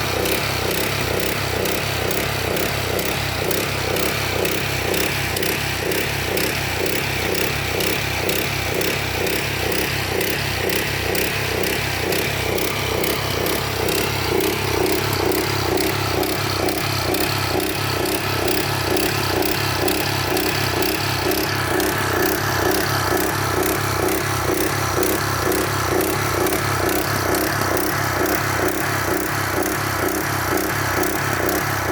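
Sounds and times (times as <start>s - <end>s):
pump engine pulsing steadily: 0.0s - 31.9s.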